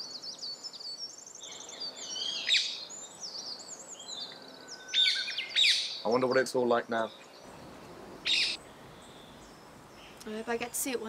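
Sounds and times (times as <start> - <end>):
songbirds singing and chirping: 0.0 - 11.0.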